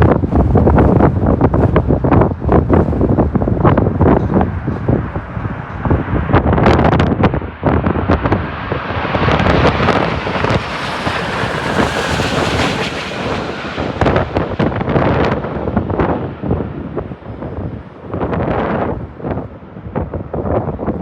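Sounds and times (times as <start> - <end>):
airliner jet engine rush: 0.0 - 21.0
wind buffeting microphone: 0.0 - 21.0.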